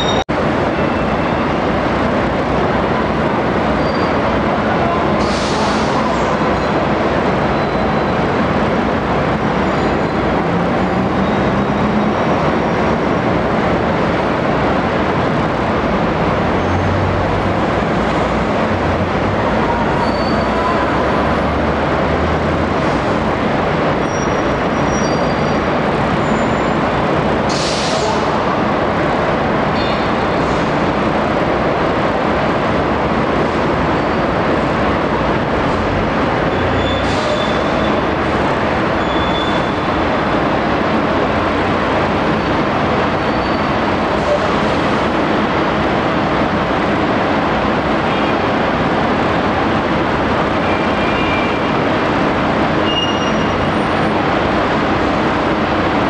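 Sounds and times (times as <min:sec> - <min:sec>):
vehicle running noise: 0:00.0 - 0:56.0.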